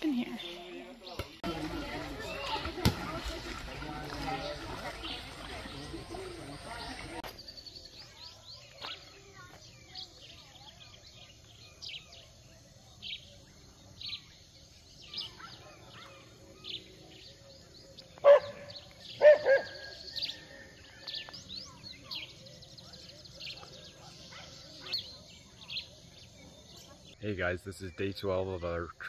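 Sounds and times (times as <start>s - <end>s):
bird chirping: 3.4s - 29.0s.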